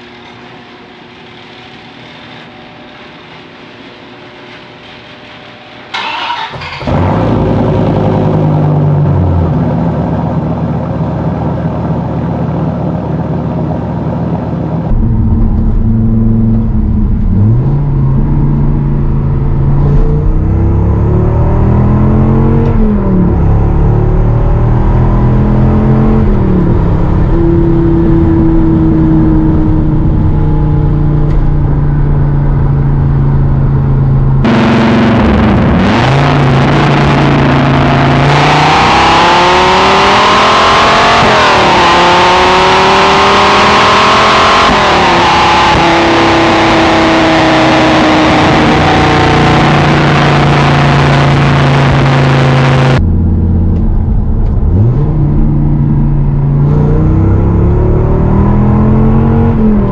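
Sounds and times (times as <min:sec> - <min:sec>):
sports car engine revving: 0:06.1 - 0:59.9.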